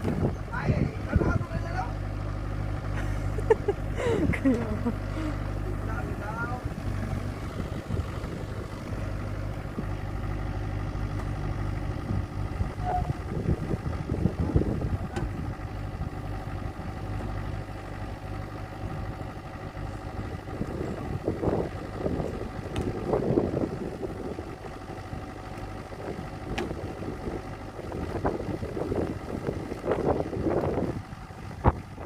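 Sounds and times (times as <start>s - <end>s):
diesel excavator engine running: 0.0s - 32.0s.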